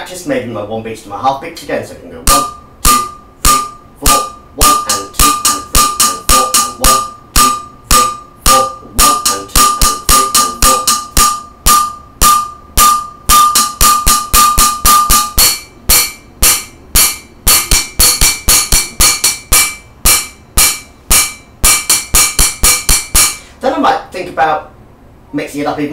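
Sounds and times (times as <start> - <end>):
drumsticks hitting metal saucepan: 2.3 - 23.5.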